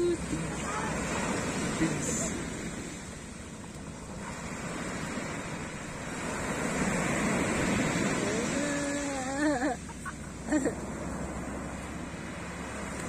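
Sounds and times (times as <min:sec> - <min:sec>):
surf washing onto pebbles: 0:00.0 - 0:13.0.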